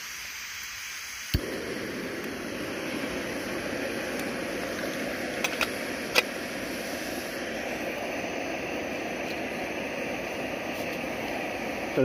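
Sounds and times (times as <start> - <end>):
gas stove flame rushing: 0.0 - 12.0.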